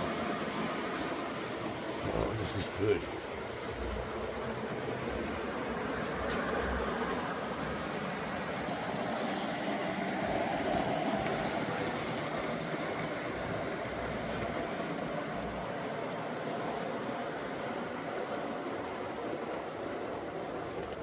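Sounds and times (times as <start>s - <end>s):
model train motor hum: 3.6s - 20.9s.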